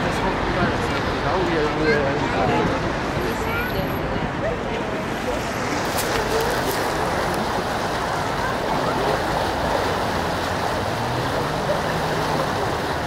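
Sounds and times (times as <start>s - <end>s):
fast river water rushing: 0.0s - 13.0s.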